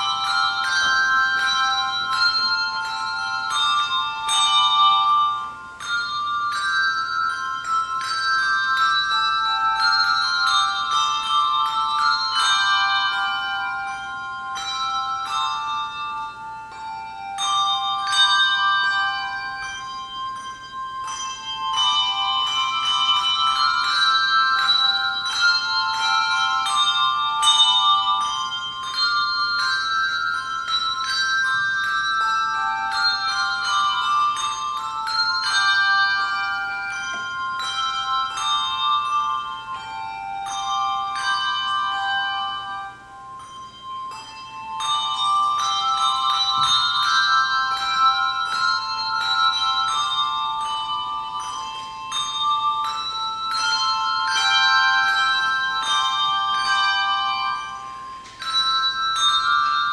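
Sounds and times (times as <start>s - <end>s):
handbell choir playing: 0.0s - 59.9s.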